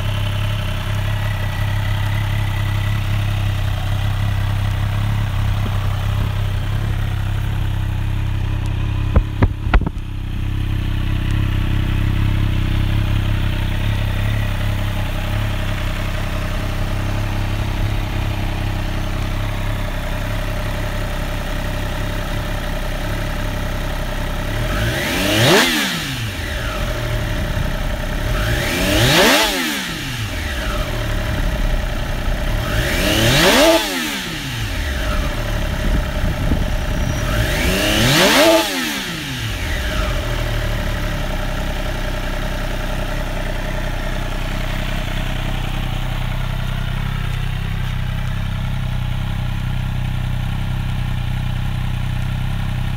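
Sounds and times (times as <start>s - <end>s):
motorcycle engine idling: 0.0s - 52.9s
motorcycle engine revving: 0.0s - 52.9s.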